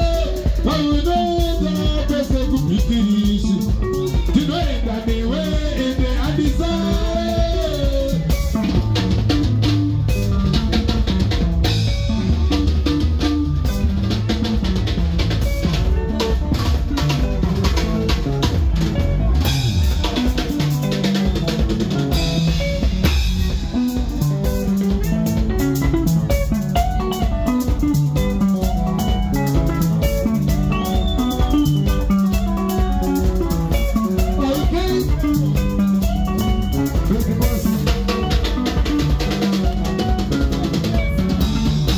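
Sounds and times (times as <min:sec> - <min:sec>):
bass: 0:00.0 - 0:41.9
drum kit fast beat: 0:00.0 - 0:41.9
electric guitar lines: 0:00.0 - 0:41.9.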